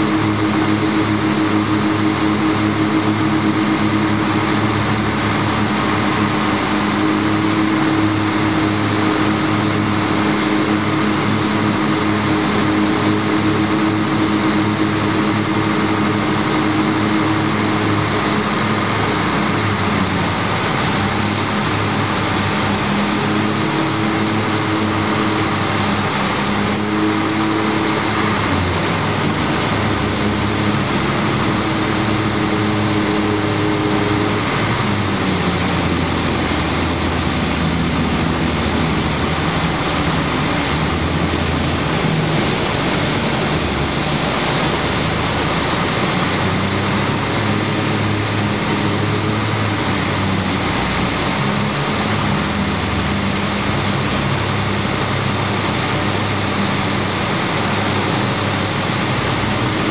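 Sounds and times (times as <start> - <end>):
powerboat diesel engines running: 0.0 - 59.9
rush of wind and water: 0.0 - 59.9.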